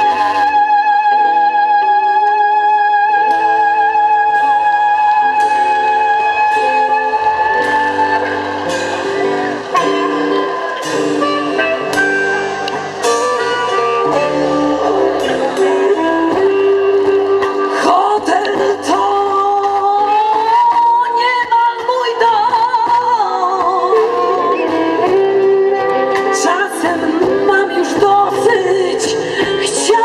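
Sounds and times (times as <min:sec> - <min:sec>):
electric guitar notes: 0:00.0 - 0:30.0
live band playing blues-rock: 0:00.0 - 0:30.0.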